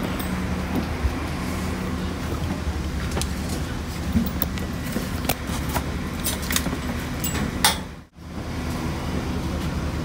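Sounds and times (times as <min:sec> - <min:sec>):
bus engine humming: 0:00.0 - 0:10.0.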